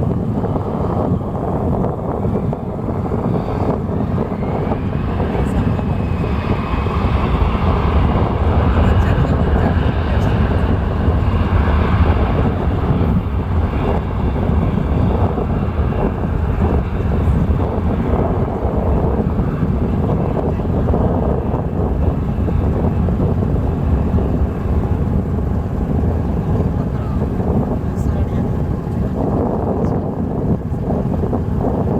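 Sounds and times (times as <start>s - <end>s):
boat engine running: 0.0s - 31.9s
wind buffeting microphone: 0.0s - 31.9s.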